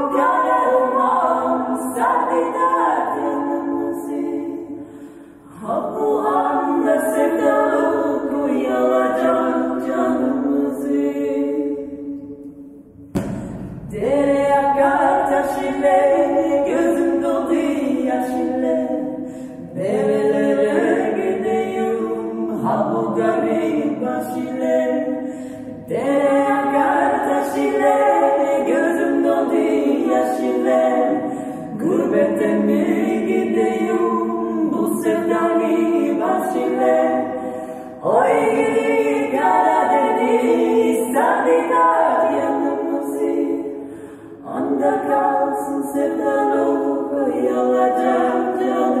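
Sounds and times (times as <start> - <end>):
women singing a cappella: 0.0 - 49.0.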